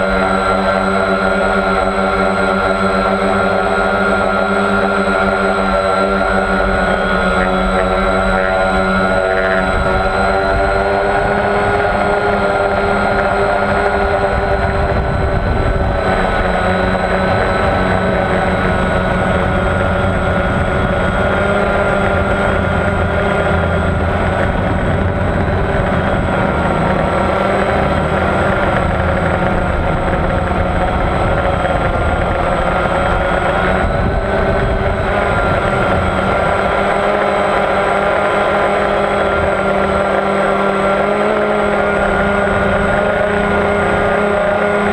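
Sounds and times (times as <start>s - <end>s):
model aircraft propeller whine: 0.0s - 44.9s
wind rumble on microphone: 0.0s - 44.9s.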